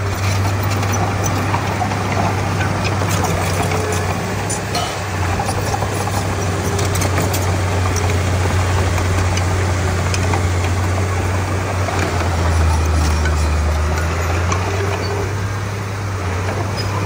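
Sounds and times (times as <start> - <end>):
bulldozer diesel engine droning: 0.0 - 17.0.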